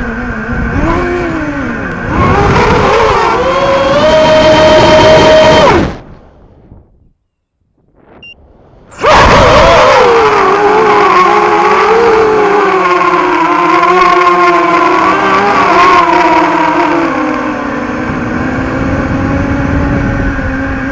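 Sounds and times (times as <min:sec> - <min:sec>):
quadcopter motors whining: 0:00.0 - 0:06.1, 0:09.0 - 0:20.9.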